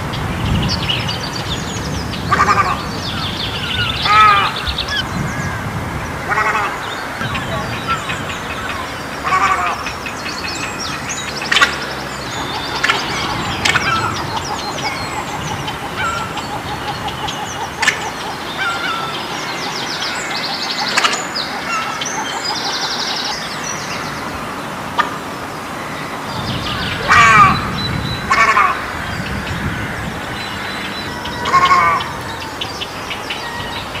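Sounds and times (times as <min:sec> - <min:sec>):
egrets calling: 0:02.0 - 0:34.0.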